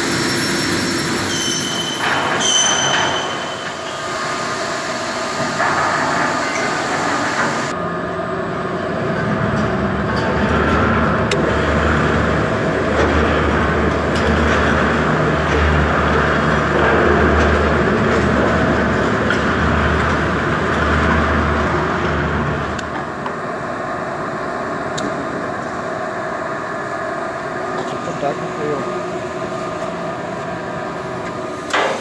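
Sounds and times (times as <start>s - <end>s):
loud mechanical noise: 0.0s - 32.0s.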